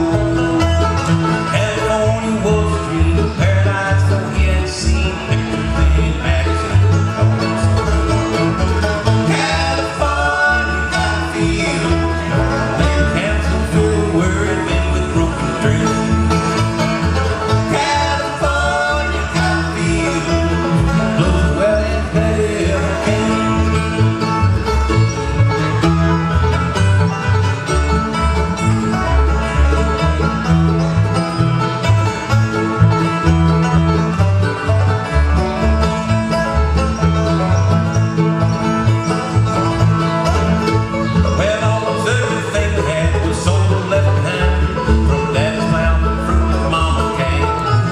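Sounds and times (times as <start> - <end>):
acoustic guitar: 0.0 - 47.9
banjo: 0.0 - 47.9
mandolin: 0.0 - 47.9
upright bass: 0.0 - 47.9.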